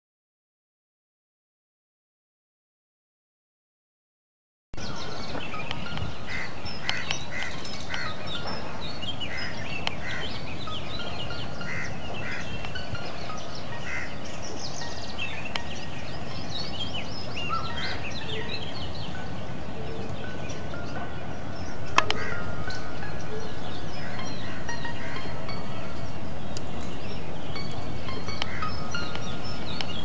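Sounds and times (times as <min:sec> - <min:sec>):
small birds chirping: 0:04.8 - 0:30.0
steady background hiss: 0:04.8 - 0:30.0.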